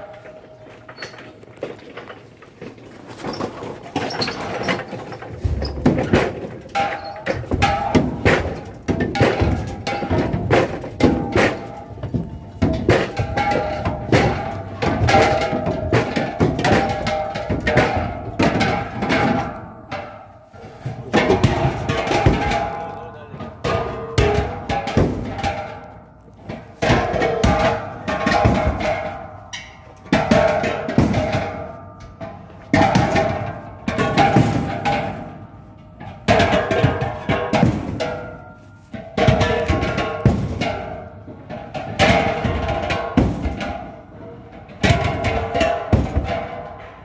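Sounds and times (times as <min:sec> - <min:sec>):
metal gas cylinders clanking: 0:00.0 - 0:47.0.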